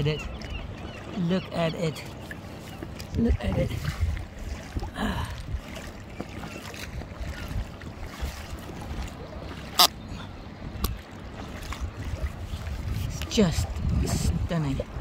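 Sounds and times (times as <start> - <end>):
water splashing against kayak: 0.0 - 15.0
wind buffeting microphone: 2.2 - 15.0.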